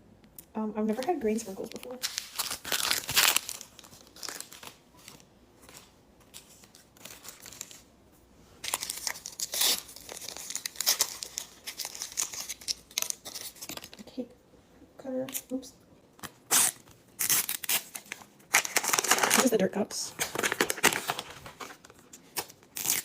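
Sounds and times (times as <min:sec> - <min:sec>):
plastic packaging crinkling: 0:00.9 - 0:07.9, 0:08.6 - 0:14.2, 0:16.2 - 0:19.6, 0:20.2 - 0:23.0.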